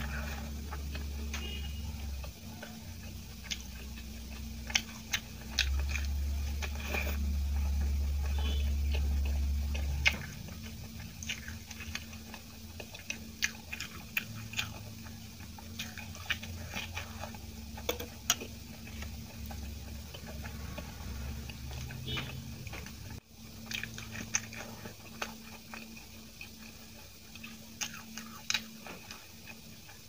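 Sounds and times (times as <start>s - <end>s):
low hum: 0.0s - 26.4s
wet chewing mouth sounds: 0.0s - 30.0s.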